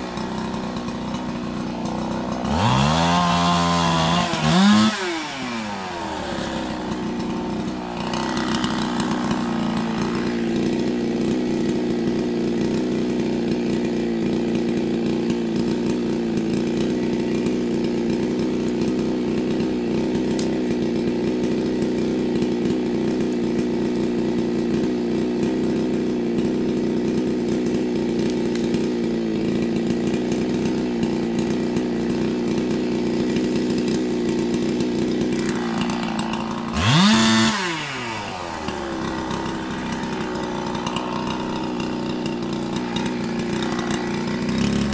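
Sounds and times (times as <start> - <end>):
chainsaw running and revving: 0.0 - 44.9.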